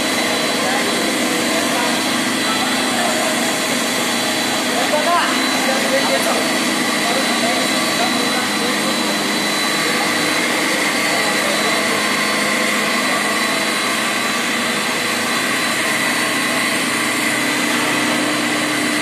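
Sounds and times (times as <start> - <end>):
extruder machine drone with whine: 0.0 - 19.0.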